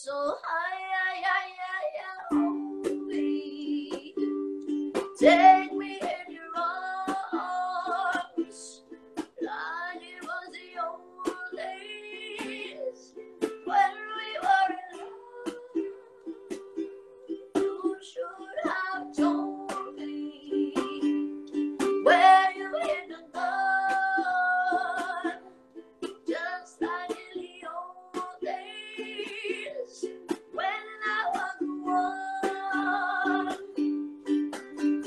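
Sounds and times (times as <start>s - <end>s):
person singing with vibrato: 0.0s - 25.6s, 26.2s - 33.9s
strummed ukulele: 0.1s - 35.0s.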